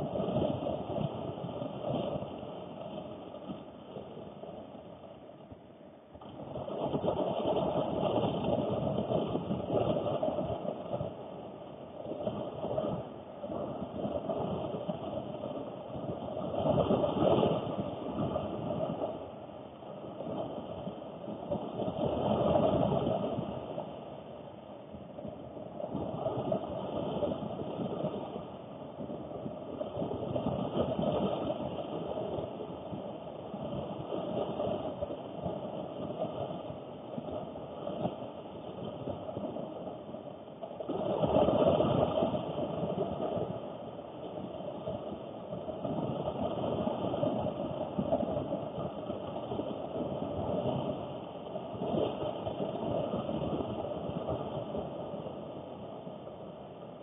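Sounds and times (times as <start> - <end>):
heavy rain on car roof: 0.0 - 5.4, 6.1 - 57.0.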